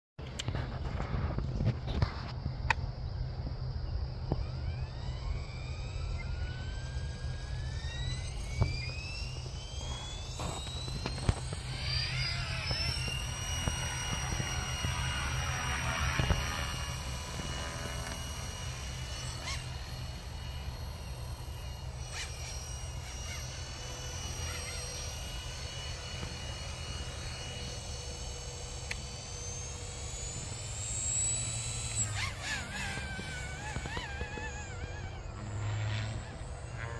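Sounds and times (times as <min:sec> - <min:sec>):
rc helicopter whine: 0:00.2 - 0:36.9.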